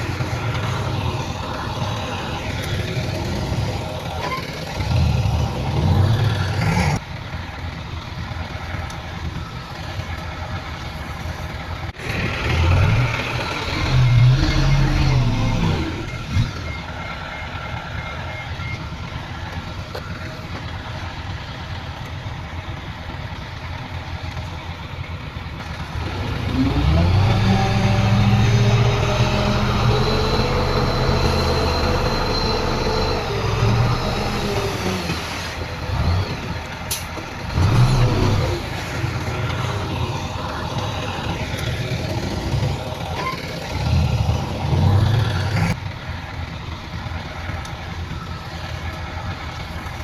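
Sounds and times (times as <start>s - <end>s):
heavy diesel engine revving: 0.0s - 18.7s, 23.8s - 50.0s.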